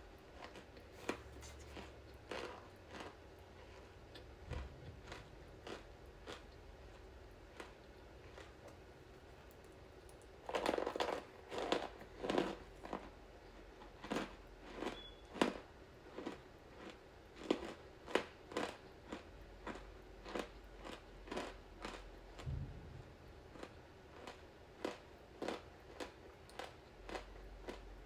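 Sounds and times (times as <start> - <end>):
person chewing crunchy food: 0.2 - 28.0.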